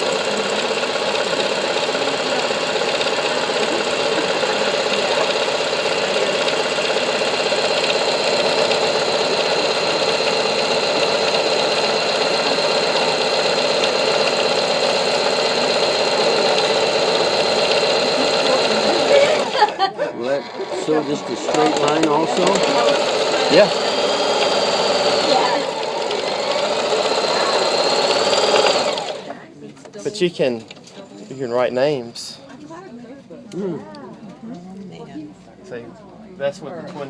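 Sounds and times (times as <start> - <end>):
electric sewing machine running: 0.0 - 32.4.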